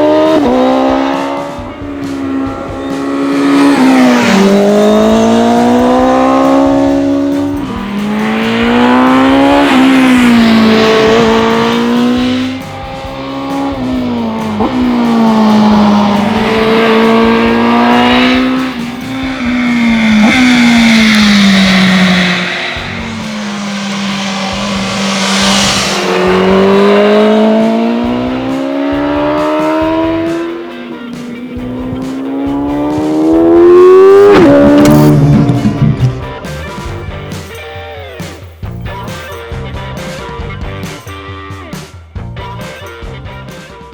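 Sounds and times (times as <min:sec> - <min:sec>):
motorcycle engine revving: 0:00.0 - 0:37.5.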